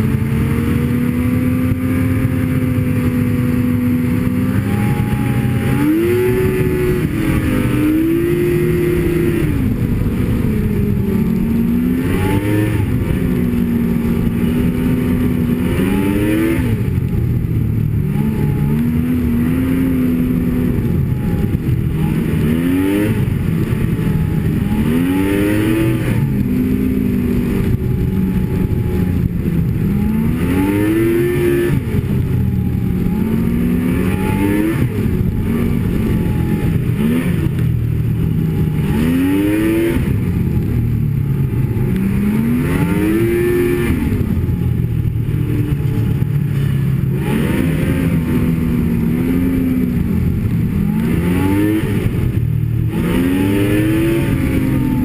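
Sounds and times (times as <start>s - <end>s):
snowmobile engine revving: 0.0s - 55.0s
track and wind rush: 0.0s - 55.0s.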